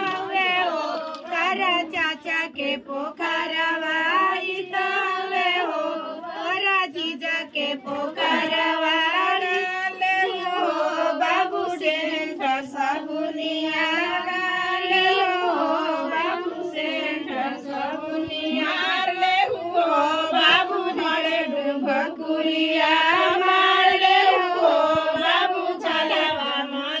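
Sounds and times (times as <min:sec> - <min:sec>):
women singing together: 0:00.0 - 0:27.0.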